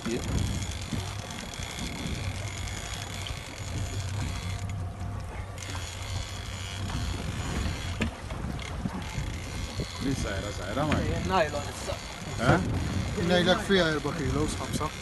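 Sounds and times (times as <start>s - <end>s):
fishing reel clicking: 0.0s - 4.8s, 5.6s - 8.0s, 8.6s - 15.0s
low rumble of boat and sea: 0.0s - 15.0s.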